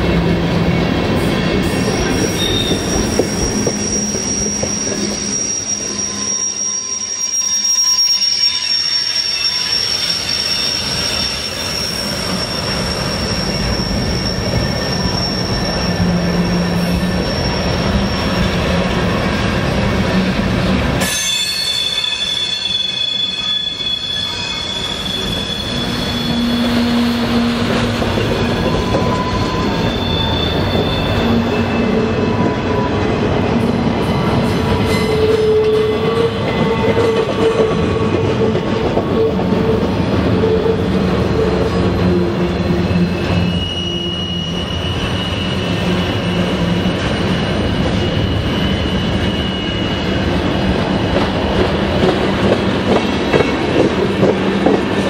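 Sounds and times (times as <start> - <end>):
wheel flanges squealing on rail: 0.0 - 55.0.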